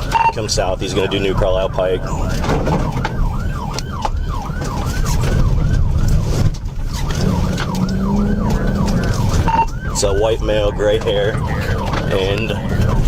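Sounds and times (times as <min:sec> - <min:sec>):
car engine and road noise: 0:00.0 - 0:13.0
police siren yelping: 0:00.0 - 0:13.0.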